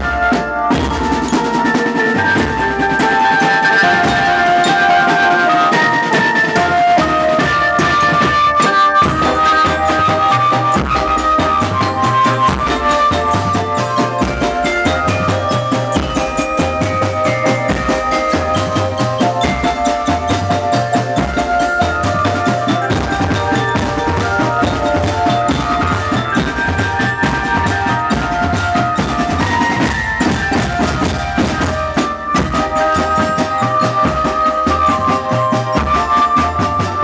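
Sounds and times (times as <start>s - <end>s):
bass drums and snare drums: 0.0s - 37.0s
melody of held notes: 0.0s - 37.0s.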